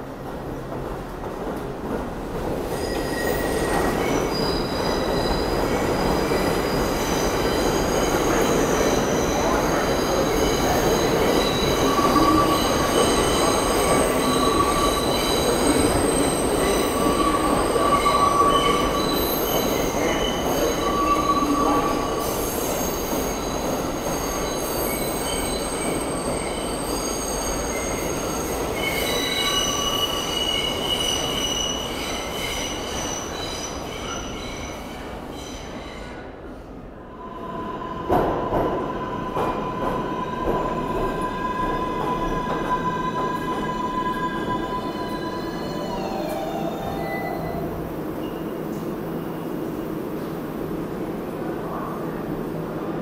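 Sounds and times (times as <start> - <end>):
subway train rumble: 0.0 - 53.0
train wheels squealing: 2.6 - 36.2, 37.3 - 48.7.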